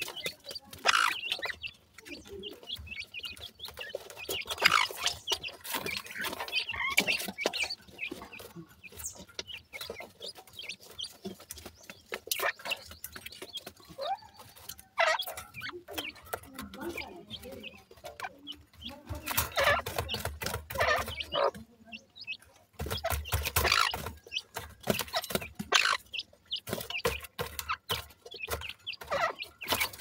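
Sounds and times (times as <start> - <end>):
chicks chirping: 0.0 - 30.0.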